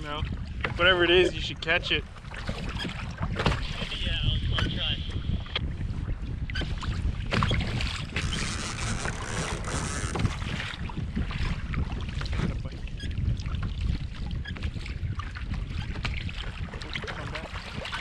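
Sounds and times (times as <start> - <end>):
water lapping against kayak: 0.0 - 18.0
wind buffeting microphone: 0.0 - 18.0.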